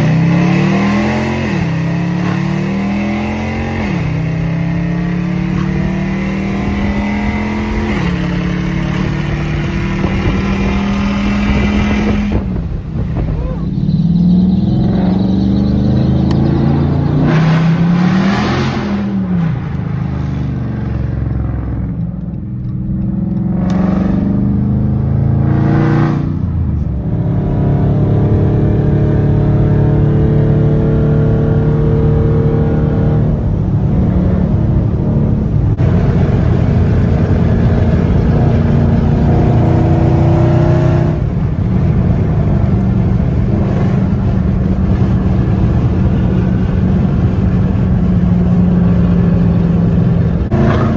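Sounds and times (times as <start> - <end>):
car exhaust revving and droning: 0.0 - 50.9.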